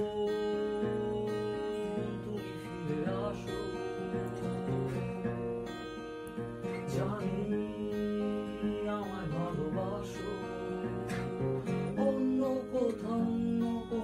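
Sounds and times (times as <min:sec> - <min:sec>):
man singing wordlessly: 0:00.0 - 0:05.7, 0:06.4 - 0:14.0
acoustic guitar strumming: 0:00.0 - 0:14.0.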